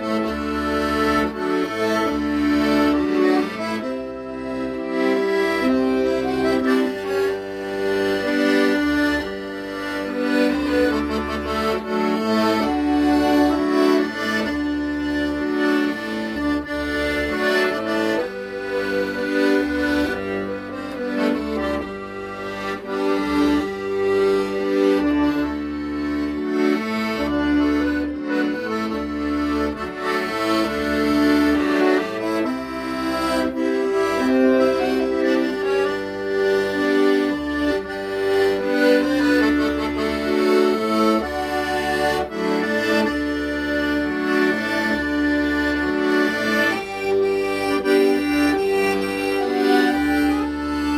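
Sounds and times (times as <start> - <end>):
accordion playing slow ballad: 0.0 - 50.9.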